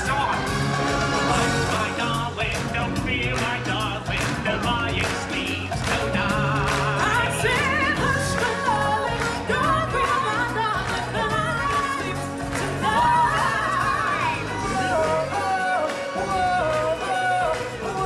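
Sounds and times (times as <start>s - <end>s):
band playing a steady beat: 0.0s - 18.0s.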